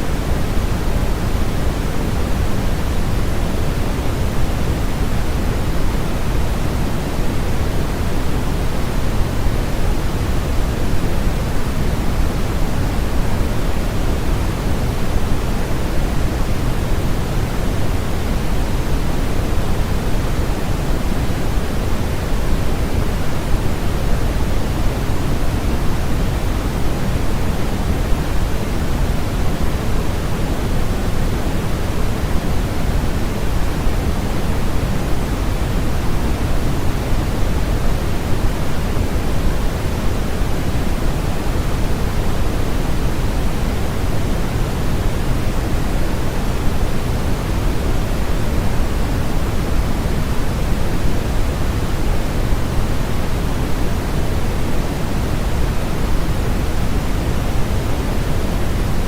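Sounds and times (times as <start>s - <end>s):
white noise static hiss: 0.0s - 59.0s.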